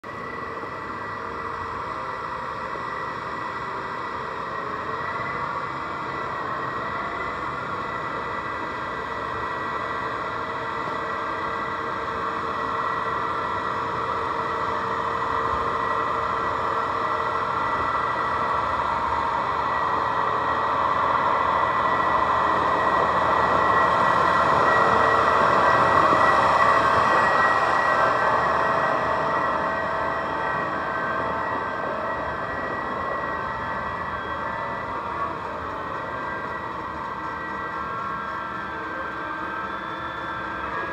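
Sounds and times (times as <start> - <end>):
high whine: 0.0 - 40.9.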